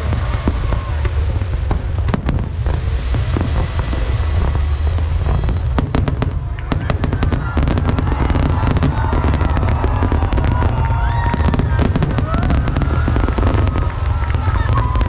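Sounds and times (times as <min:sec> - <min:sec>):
fireworks booming: 0:00.0 - 0:15.0
fireworks crackling pops: 0:00.0 - 0:15.0.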